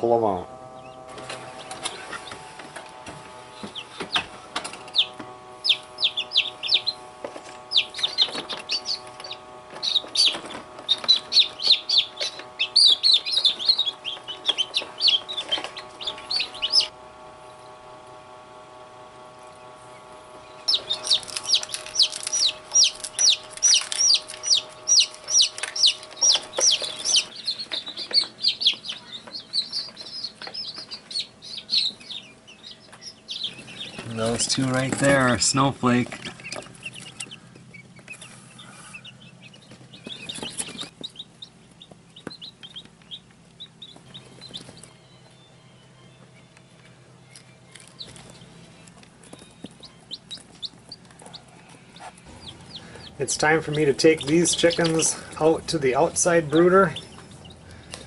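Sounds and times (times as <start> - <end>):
chicks peeping: 0.0 - 58.0
steady hum: 0.0 - 58.0.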